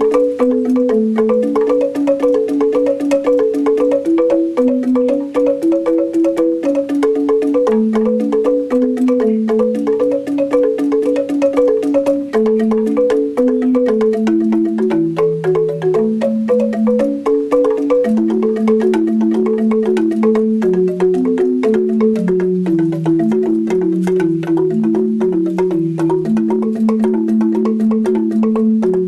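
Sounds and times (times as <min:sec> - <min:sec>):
bamboo xylophone played with mallets: 0:00.0 - 0:29.0.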